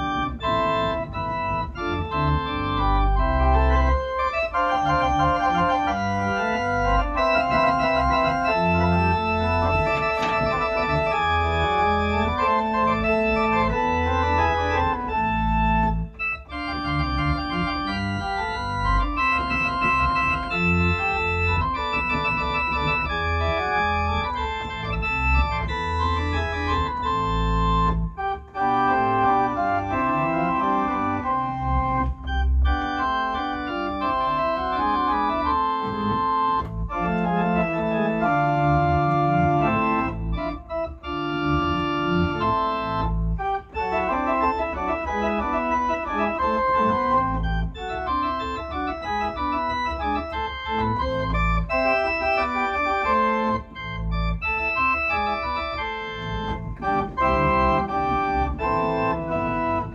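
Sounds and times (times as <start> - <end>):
deep organ bass notes: 0.0 - 59.9
organ playing sustained chords: 0.0 - 59.9.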